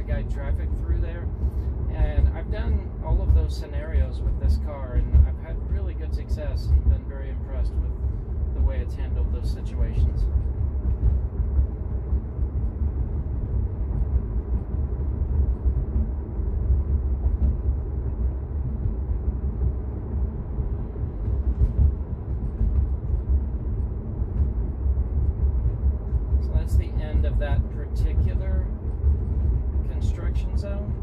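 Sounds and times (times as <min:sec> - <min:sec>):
road and tyre noise in car: 0:00.0 - 0:31.0.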